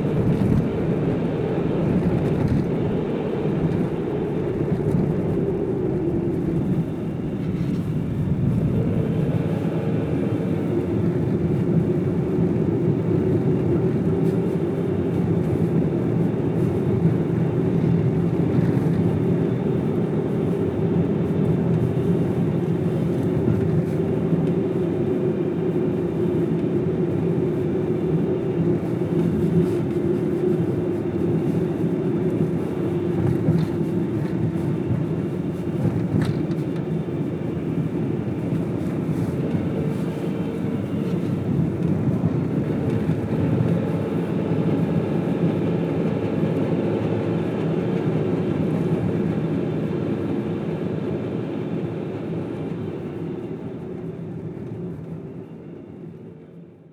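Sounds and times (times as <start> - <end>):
car road and engine noise: 0.0 - 56.9.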